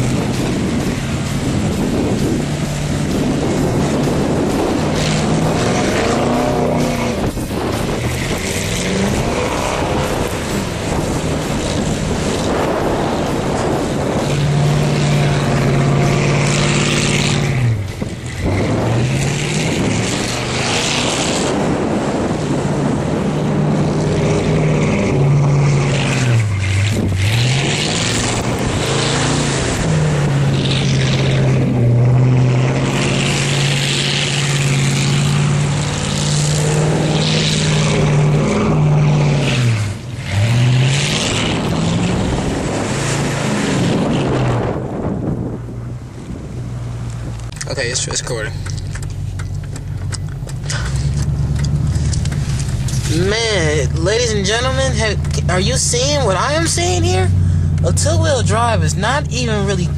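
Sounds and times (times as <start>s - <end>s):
car engine revving: 0.0s - 59.9s
road noise: 0.0s - 59.9s.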